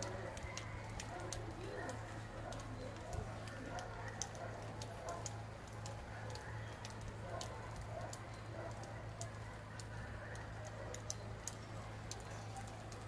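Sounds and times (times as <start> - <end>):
charcoal fire crackling: 0.0 - 13.0.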